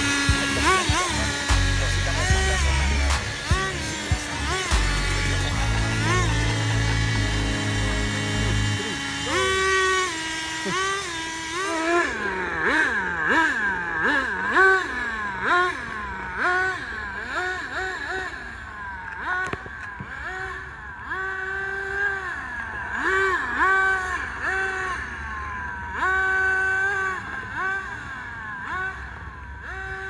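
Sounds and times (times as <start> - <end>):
electric toy car motor whining: 0.0 - 30.0.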